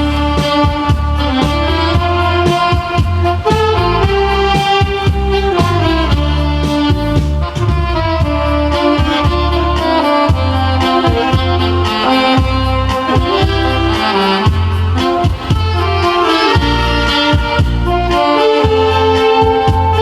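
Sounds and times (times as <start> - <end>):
backing track with bass line: 0.0 - 20.0
saxophone melody: 0.0 - 20.0.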